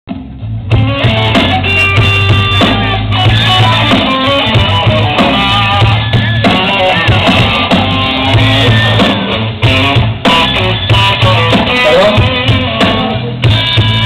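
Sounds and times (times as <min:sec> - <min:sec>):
bass line: 0:00.1 - 0:14.0
drum kit: 0:00.1 - 0:14.0
guitar: 0:00.1 - 0:14.0.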